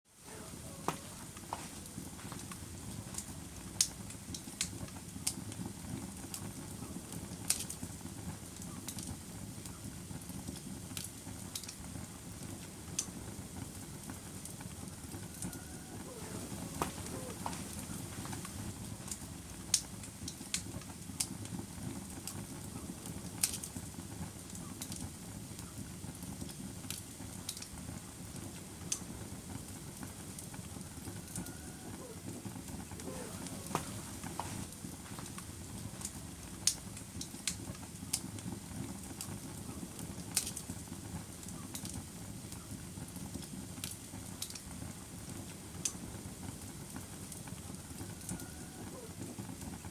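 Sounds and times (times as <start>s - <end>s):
fire crackling and popping: 0.1s - 49.9s
wood fire rumbling: 0.1s - 49.9s.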